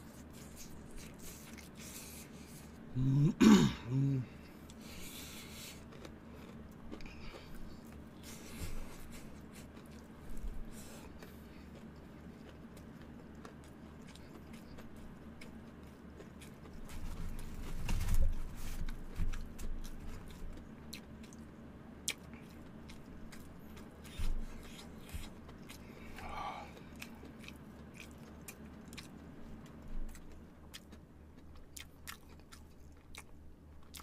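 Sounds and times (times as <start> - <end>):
chewing crispy chicken: 0.0 - 2.8, 4.2 - 34.0.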